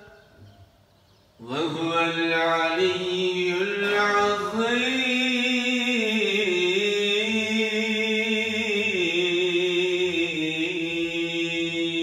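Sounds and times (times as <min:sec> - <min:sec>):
man chanting melodically: 0:01.4 - 0:12.0.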